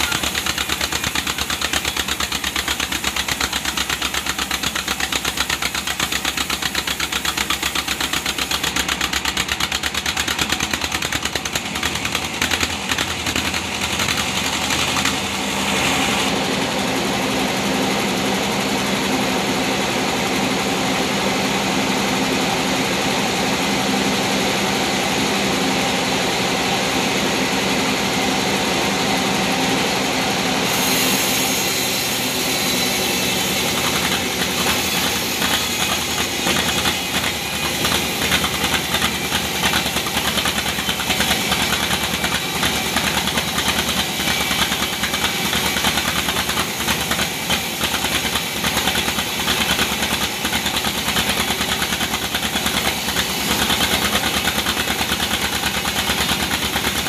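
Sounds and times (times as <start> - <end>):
band sawmill running: 0.0 - 57.0.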